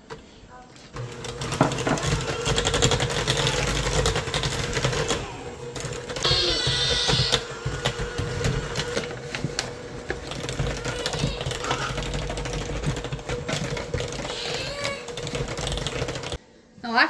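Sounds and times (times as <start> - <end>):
electric hand mixer running: 1.0 - 16.4.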